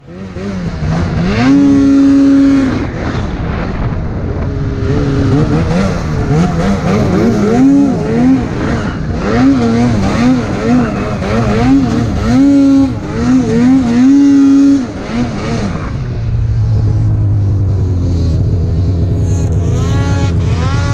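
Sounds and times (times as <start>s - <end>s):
snowmobile engine revving: 0.0s - 20.9s.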